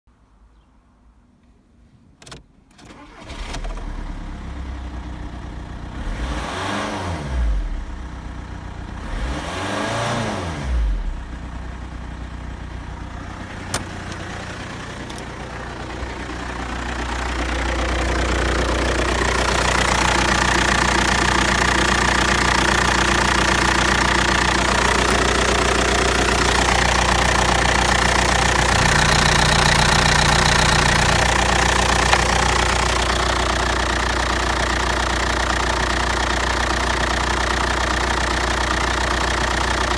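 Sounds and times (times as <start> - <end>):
diesel engine revving and idling: 2.9 - 39.9.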